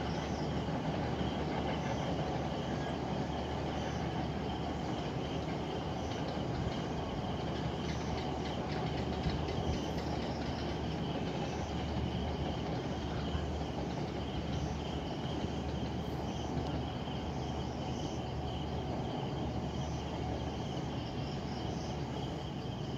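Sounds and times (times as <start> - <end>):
distant train rumble: 0.0 - 22.9
insects chirring: 0.0 - 22.9.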